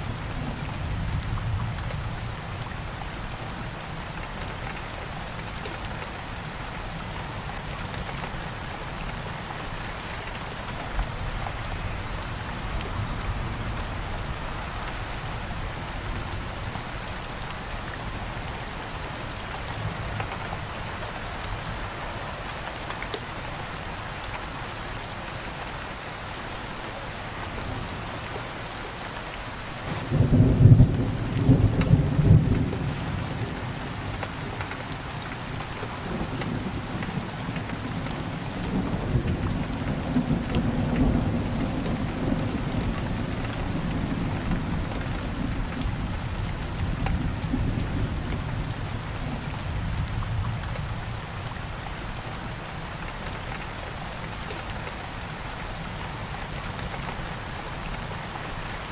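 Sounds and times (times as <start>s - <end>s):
heavy rain on window: 0.0s - 58.9s.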